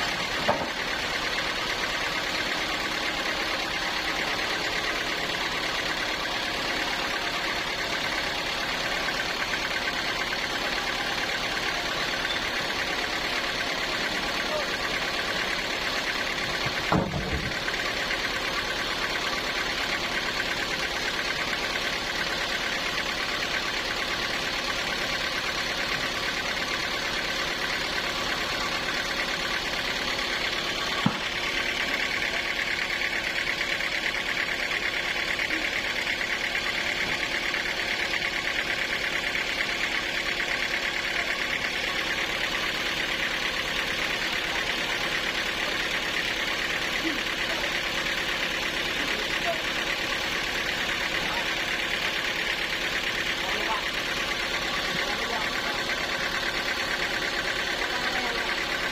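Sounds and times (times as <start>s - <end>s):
sawmill engine running: 0.0s - 58.9s.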